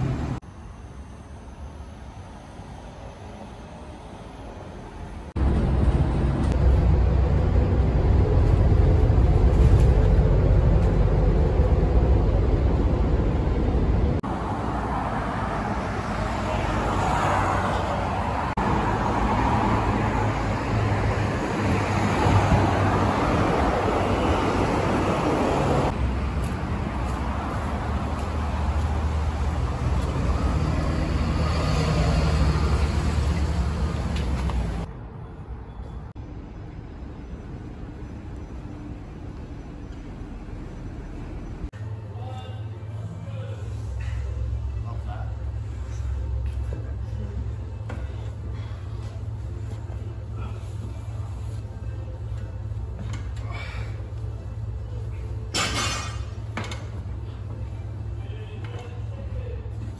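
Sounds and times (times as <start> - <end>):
cars and buses passing: 0.0 - 59.9.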